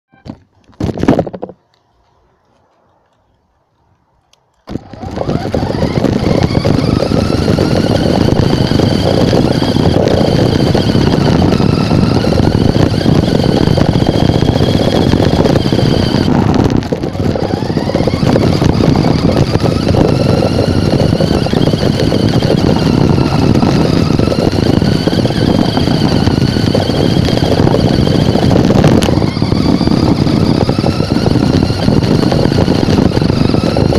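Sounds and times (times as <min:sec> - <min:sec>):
rc car motor whine: 0:04.6 - 0:33.9.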